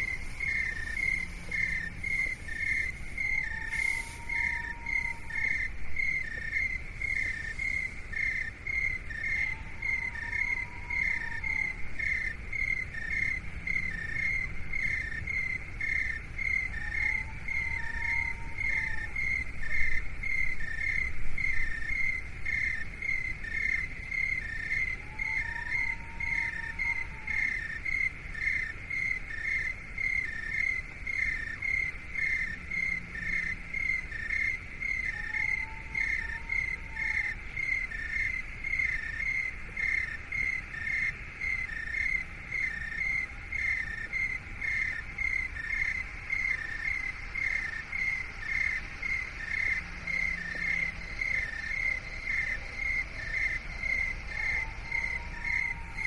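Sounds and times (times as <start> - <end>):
insect-like chirping: 0.0 - 56.0.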